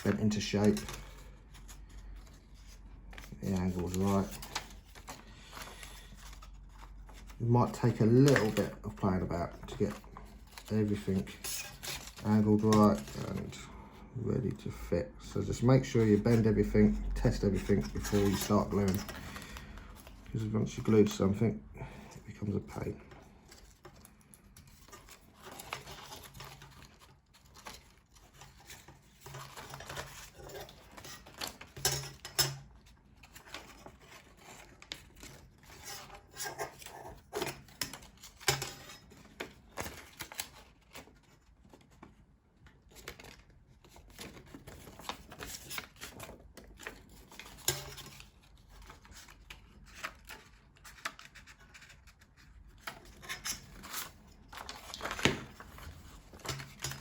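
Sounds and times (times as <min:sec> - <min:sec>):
stiff paper rustling and crackling: 0:00.0 - 0:57.0.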